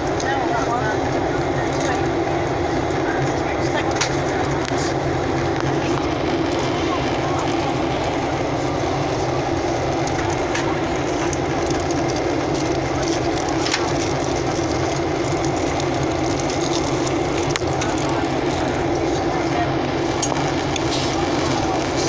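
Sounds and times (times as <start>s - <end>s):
airplane cabin engine noise: 0.0s - 22.0s.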